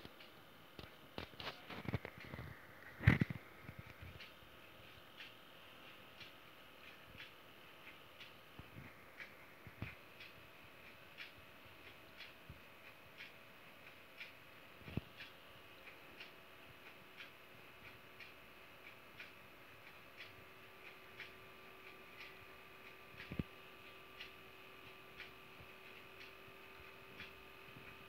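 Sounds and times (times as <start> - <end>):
faint regular ticking: 0.0 - 28.0.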